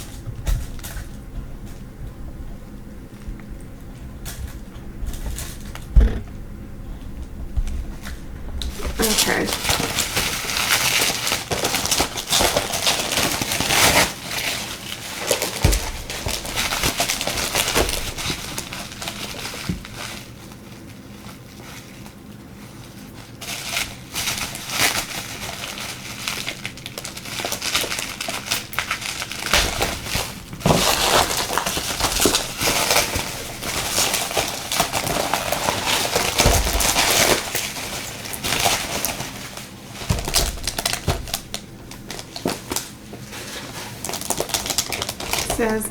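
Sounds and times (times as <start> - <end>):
packaging crinkling: 7.6 - 45.9.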